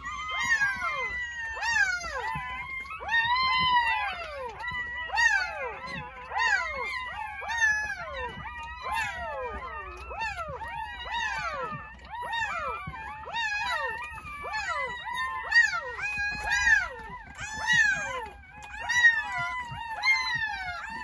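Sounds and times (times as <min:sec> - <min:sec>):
puppies whining squeals: 0:00.0 - 0:21.0.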